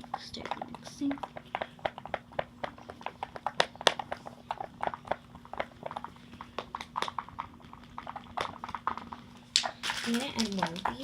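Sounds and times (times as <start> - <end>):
slime squelching while stirred: 0.0 - 11.0.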